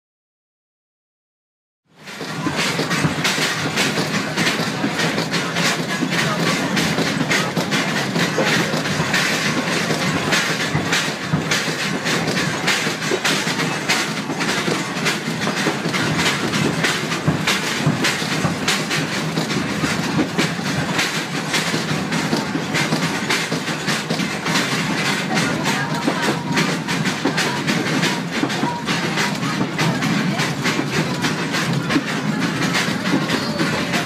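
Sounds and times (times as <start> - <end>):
train carriage rumbling on track: 1.9 - 34.0
wheels clacking and rattling: 2.0 - 34.0.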